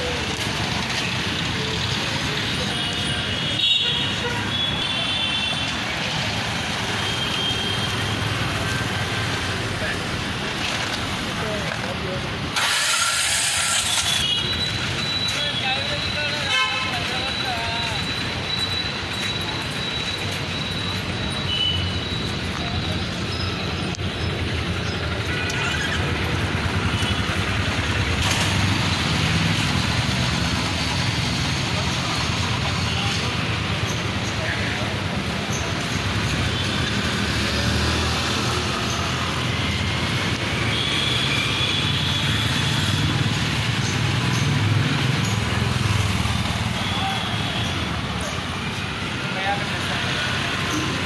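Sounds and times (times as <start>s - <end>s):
road traffic and motorbikes: 0.0s - 51.0s.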